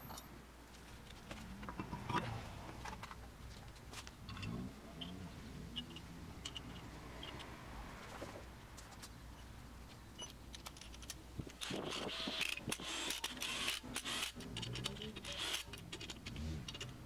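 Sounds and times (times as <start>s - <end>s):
clicks and scraping on brakes: 0.9s - 17.0s.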